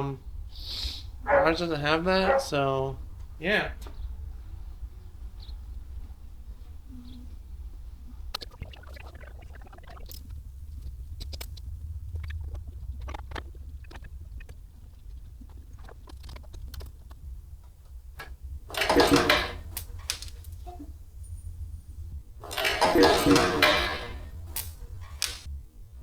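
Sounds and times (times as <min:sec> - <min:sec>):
steady low hum: 0:00.0 - 0:26.0
rustling clatter: 0:01.1 - 0:08.4, 0:10.0 - 0:25.5.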